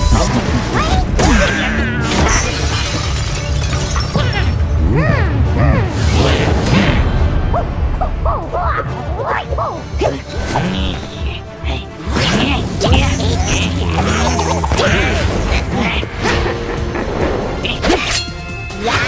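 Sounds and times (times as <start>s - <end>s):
cartoon background music: 0.0s - 19.0s.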